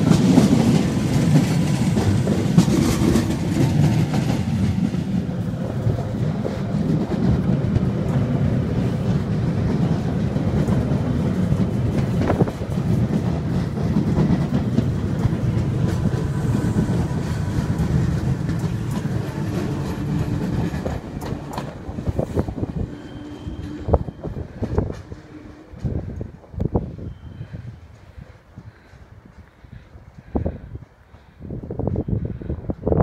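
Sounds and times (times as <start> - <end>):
wheels clacking over rail joints: 0.0 - 26.7
train wheels rumbling on rail: 0.0 - 33.0.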